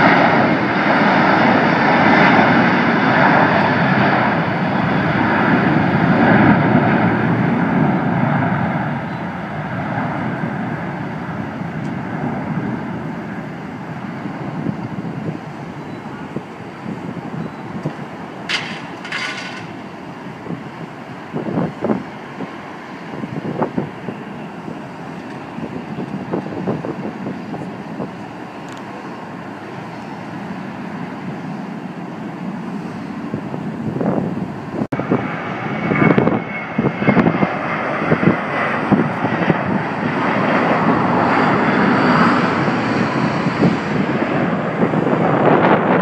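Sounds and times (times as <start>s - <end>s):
jet engines rumbling: 0.0s - 46.0s
wind buffeting microphone: 0.0s - 46.0s.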